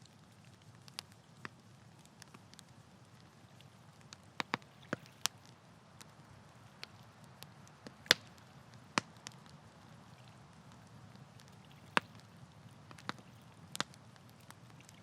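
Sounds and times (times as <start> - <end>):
campfire crackling: 0.0 - 15.0
faint steady hiss: 0.0 - 15.0.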